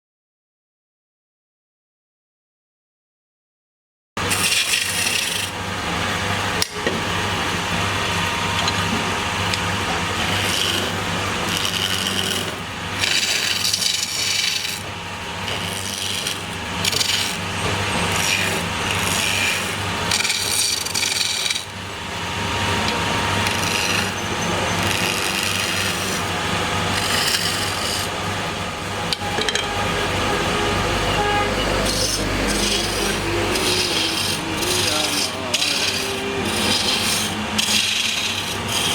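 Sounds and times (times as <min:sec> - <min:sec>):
lathe motor hum: 0:04.2 - 0:38.9
tool scraping spinning wood: 0:04.2 - 0:38.9.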